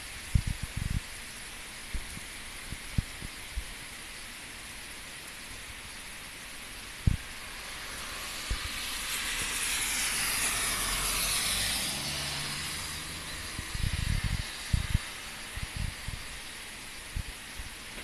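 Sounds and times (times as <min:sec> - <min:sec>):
car tyres hissing through water: 0:00.0 - 0:18.0
heavy rain: 0:00.0 - 0:18.0.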